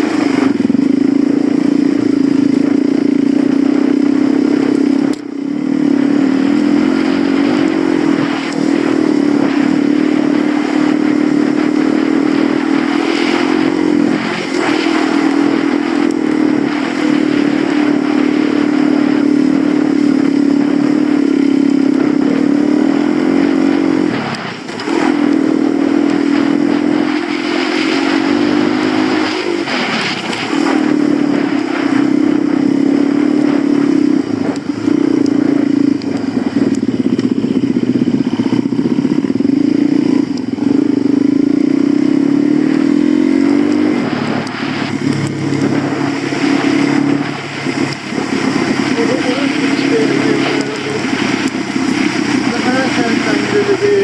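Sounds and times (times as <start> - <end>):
dirt bike engine revving: 0.0 - 54.0
rushing noise: 0.0 - 54.0.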